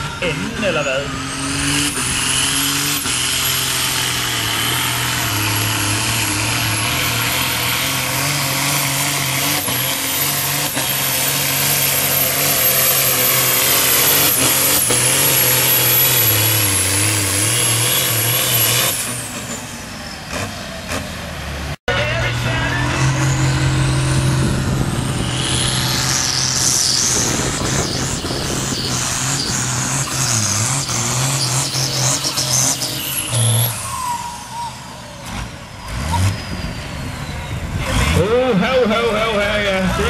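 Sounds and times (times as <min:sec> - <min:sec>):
tractor diesel engine at full throttle: 0:00.0 - 0:40.0.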